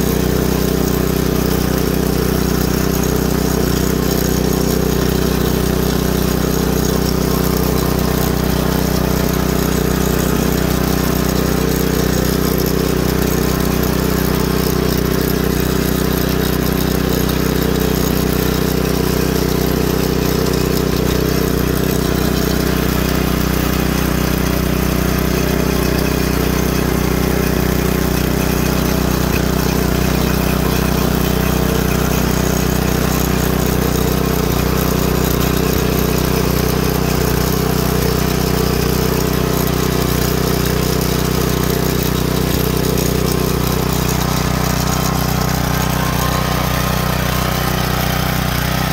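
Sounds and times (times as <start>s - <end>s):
rototiller engine running: 0.0s - 48.9s.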